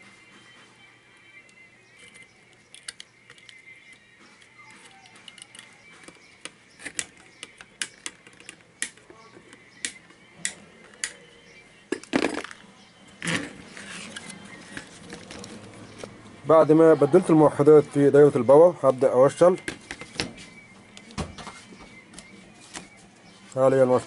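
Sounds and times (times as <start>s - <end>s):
handling noises: 0.0s - 11.3s, 11.9s - 16.4s, 17.2s - 24.0s.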